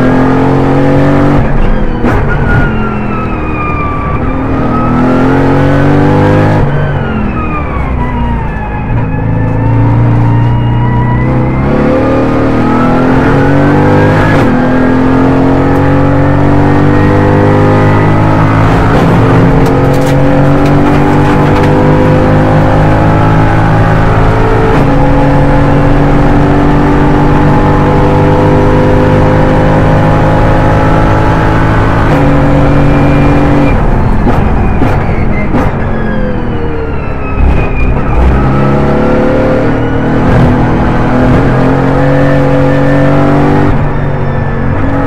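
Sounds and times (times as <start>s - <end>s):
car engine accelerating through gears: 0.0s - 45.0s.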